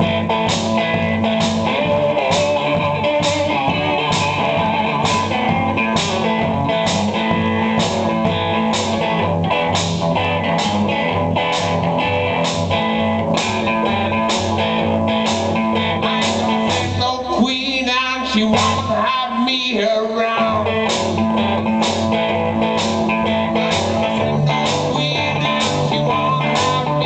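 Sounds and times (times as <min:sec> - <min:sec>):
drum beat: 0:00.0 - 0:17.1, 0:20.7 - 0:27.0
bass line: 0:00.0 - 0:27.0
electric guitar: 0:00.0 - 0:27.0.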